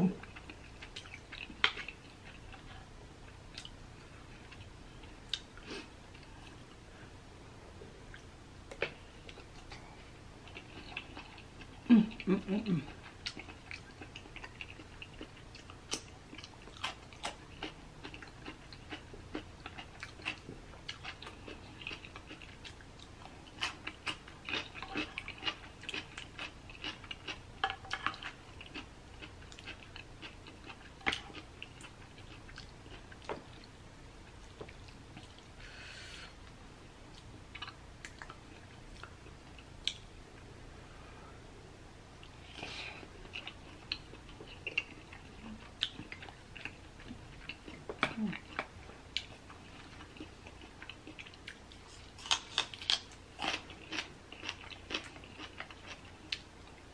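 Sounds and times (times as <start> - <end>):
chewing and wet mouth sounds: 0.2 - 6.8, 8.1 - 35.5, 36.4 - 40.1, 42.2 - 56.9.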